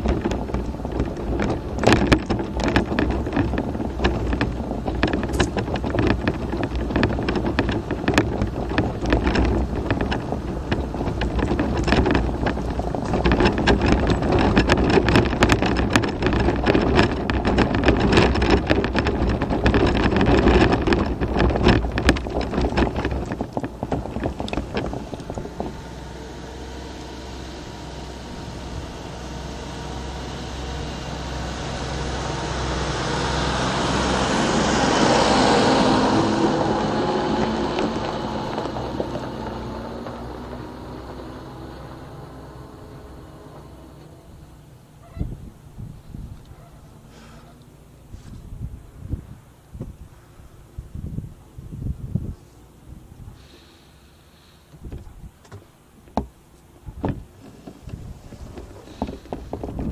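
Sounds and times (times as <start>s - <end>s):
stones clicking under tyres: 0.0s - 49.2s, 53.2s - 59.9s
scooter rattling over rough track: 0.0s - 59.9s
tractor engine approaching: 0.0s - 59.9s.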